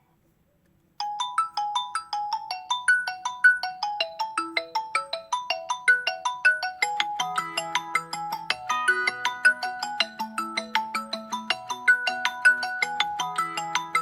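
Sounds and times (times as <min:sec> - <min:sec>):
phone ringtone chiming melody: 0:01.0 - 0:14.0.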